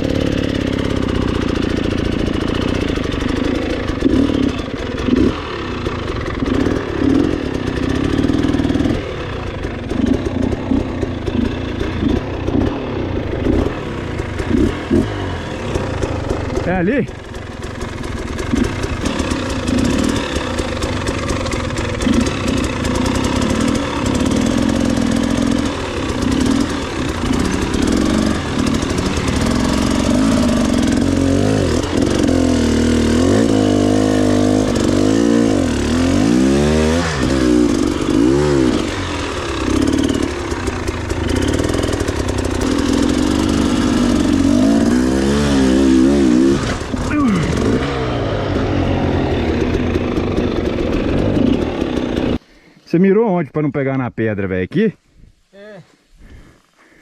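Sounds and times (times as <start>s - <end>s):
dirt bike engine revving: 0.0s - 52.5s.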